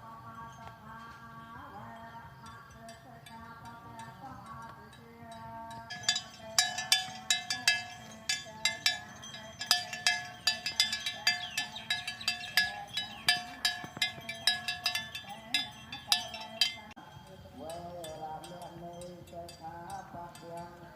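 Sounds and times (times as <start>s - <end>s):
cow bells clanking: 0.0s - 20.9s.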